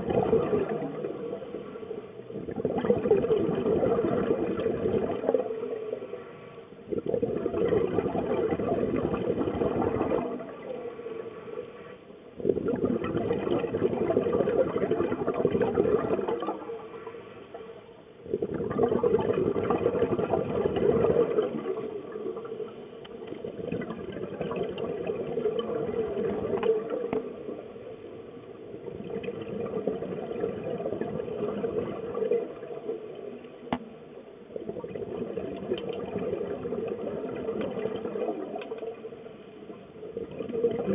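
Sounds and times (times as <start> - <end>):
underwater regulator bubbles: 0.0 - 40.9.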